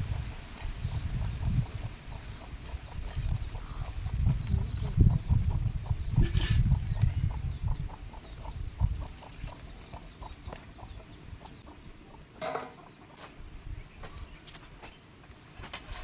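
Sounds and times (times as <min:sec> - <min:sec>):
chicken clucking: 0:00.0 - 0:13.4.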